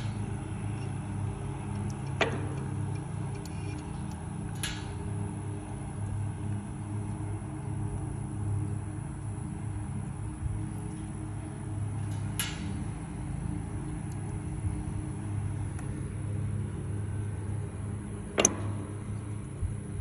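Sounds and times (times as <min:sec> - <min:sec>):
windmill clunks: 0:00.0 - 0:08.1, 0:10.1 - 0:20.0
windmill running: 0:00.0 - 0:20.0.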